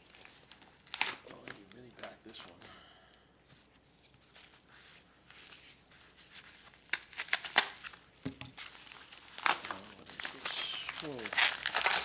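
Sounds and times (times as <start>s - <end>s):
paper crinkling and tearing: 0.0s - 2.6s, 4.0s - 12.0s.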